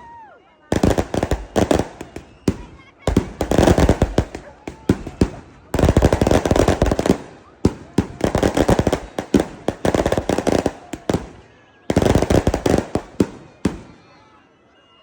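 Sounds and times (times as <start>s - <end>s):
firecrackers crackling: 0.0s - 14.2s.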